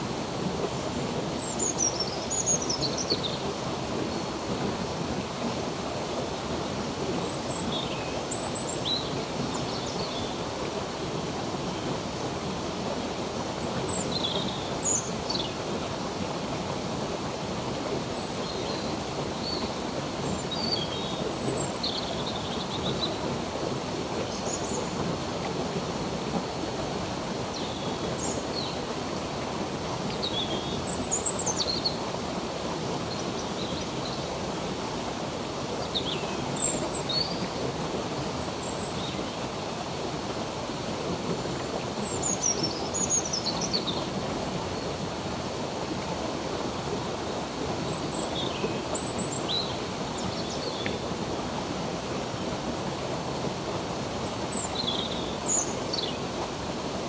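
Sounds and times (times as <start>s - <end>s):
flowing stream water: 0.0s - 57.0s.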